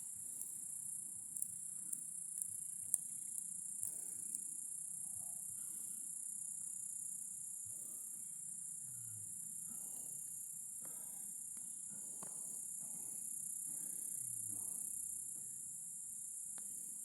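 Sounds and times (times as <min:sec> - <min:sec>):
insects chirping chorus: 0:00.0 - 0:17.0.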